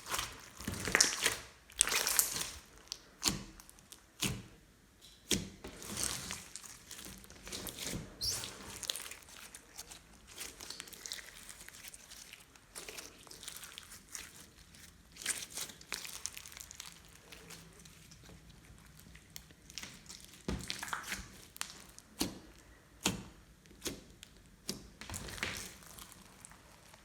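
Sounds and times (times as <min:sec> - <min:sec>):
hands squishing slime: 0:00.0 - 0:27.0.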